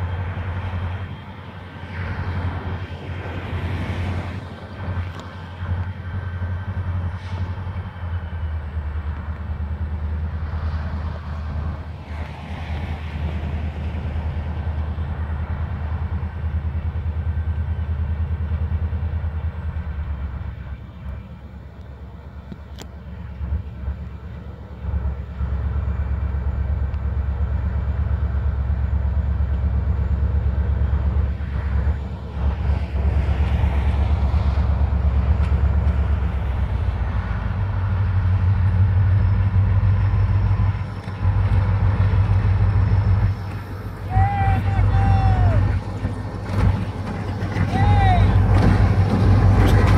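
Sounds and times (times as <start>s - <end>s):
diesel locomotive engine rumbling: 0.0s - 49.9s.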